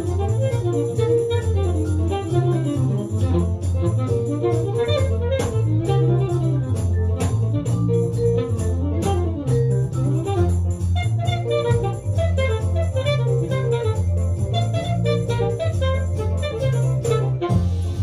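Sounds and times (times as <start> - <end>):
music through hi-fi loudspeakers: 0.0 - 18.0.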